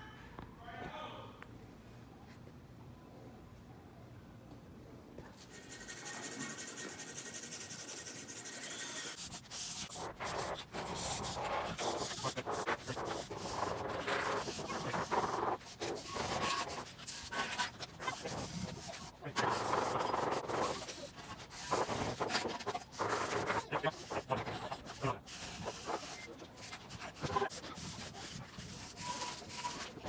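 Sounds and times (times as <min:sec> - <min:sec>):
scrubbing and scraping metal: 0:05.4 - 0:30.0.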